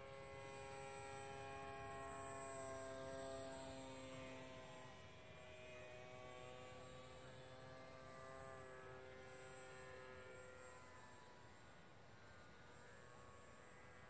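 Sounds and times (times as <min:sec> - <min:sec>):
model airplane motor drone: 0:00.0 - 0:14.0.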